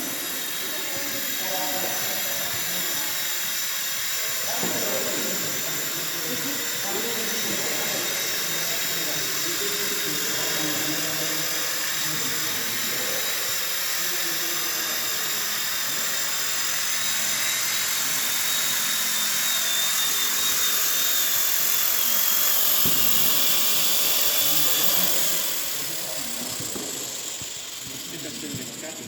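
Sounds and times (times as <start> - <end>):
helicopter rotor noise: 0.0 - 29.0
rc helicopter motor whine: 0.0 - 29.0.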